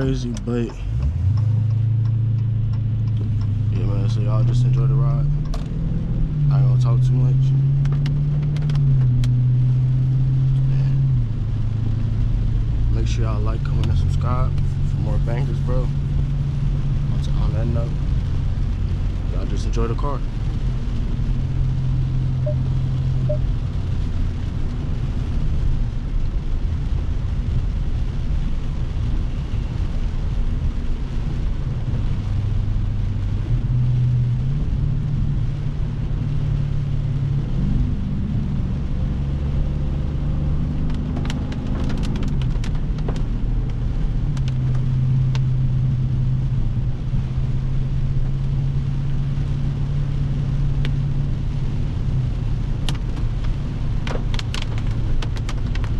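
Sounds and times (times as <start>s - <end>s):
car engine running: 0.0s - 55.9s
rain: 0.0s - 55.9s
road noise: 0.0s - 55.9s.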